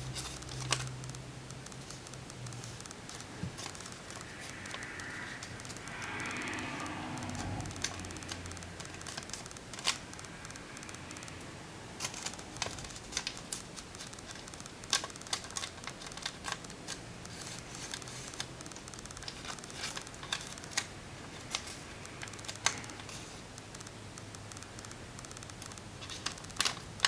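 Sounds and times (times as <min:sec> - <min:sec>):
paper rustling as it is folded: 0:00.0 - 0:00.9, 0:01.8 - 0:10.0, 0:12.0 - 0:23.4, 0:25.6 - 0:27.0.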